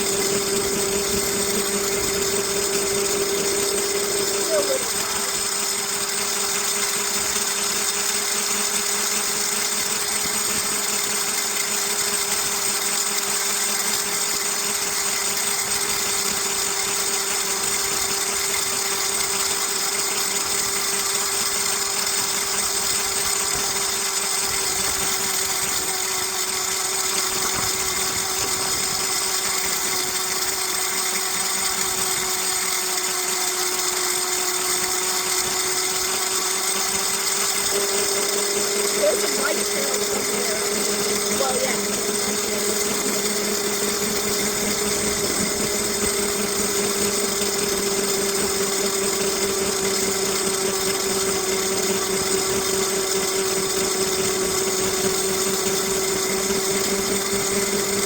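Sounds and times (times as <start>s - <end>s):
electric bike motor whining: 0.0s - 58.0s.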